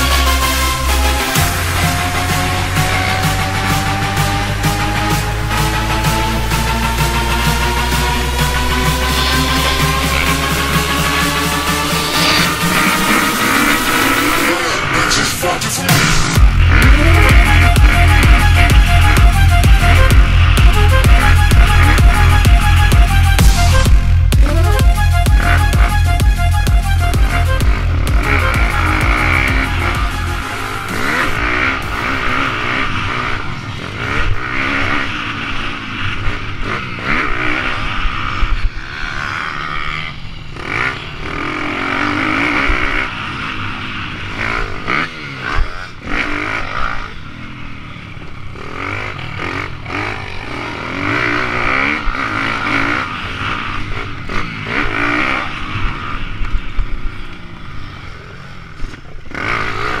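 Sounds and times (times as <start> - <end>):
pit bike engine revving: 0.0 - 60.0.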